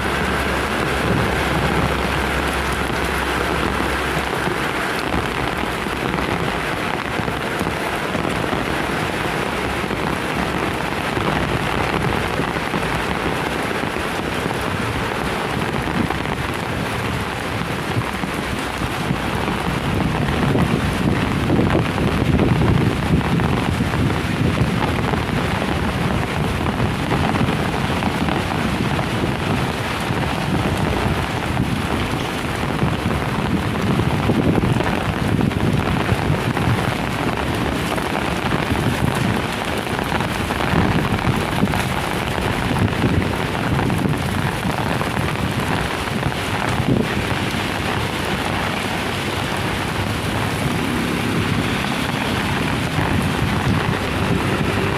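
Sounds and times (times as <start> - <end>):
deep rumbling: 0.0 - 54.9
heavy rain pouring: 0.0 - 54.9
strong wind: 0.0 - 54.9.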